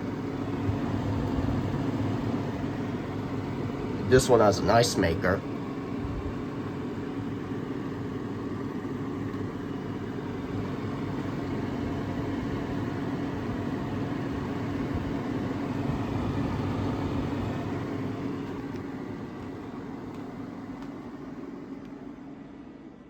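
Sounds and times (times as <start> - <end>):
refrigerator humming: 0.0 - 23.0.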